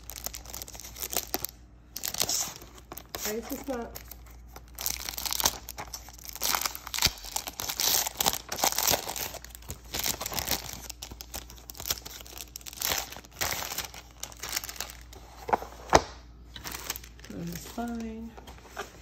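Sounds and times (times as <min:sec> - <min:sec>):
plastic wrap tearing and crinkling: 0:00.0 - 0:18.2.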